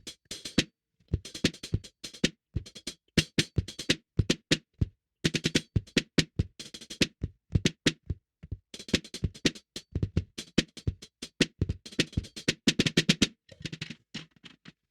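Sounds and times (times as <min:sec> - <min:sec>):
drum kit played messily: 0:00.0 - 0:14.0.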